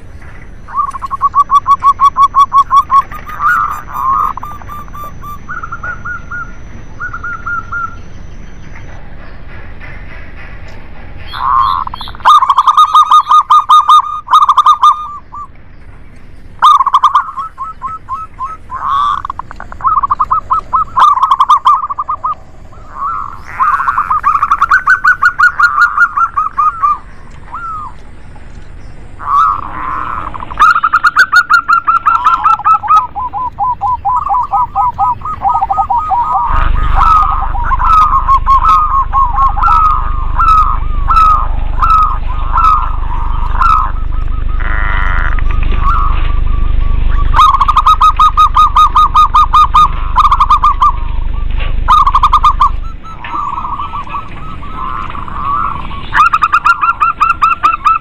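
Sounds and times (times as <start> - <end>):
doves cooing: 0.0 - 58.0
low background rumble: 0.0 - 58.0.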